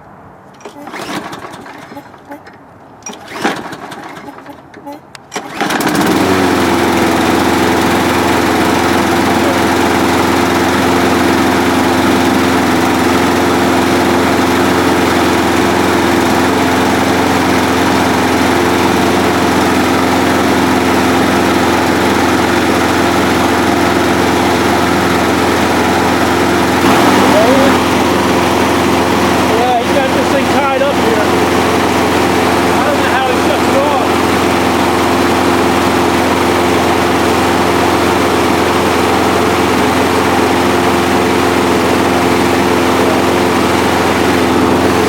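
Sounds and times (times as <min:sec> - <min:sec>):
lawnmower engine running: 0:00.5 - 0:45.0.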